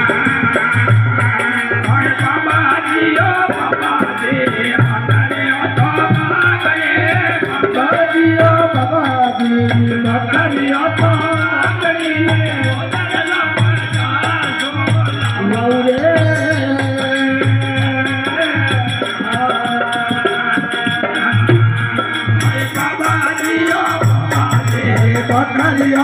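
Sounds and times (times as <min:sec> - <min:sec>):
dholak drum beating: 0:00.0 - 0:26.0
harmonium: 0:00.0 - 0:26.0
rattling percussion: 0:00.0 - 0:26.0.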